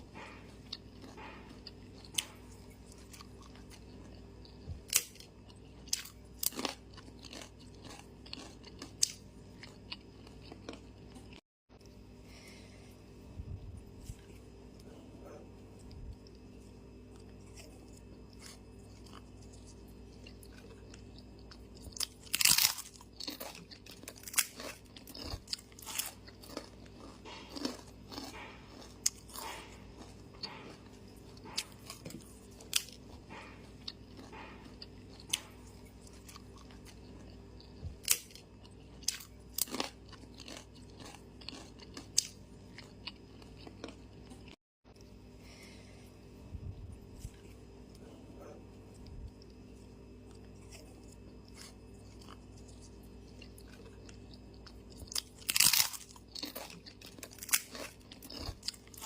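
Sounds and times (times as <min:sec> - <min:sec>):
person chewing food: 0:00.0 - 0:59.0
steady low hum: 0:00.0 - 0:59.0.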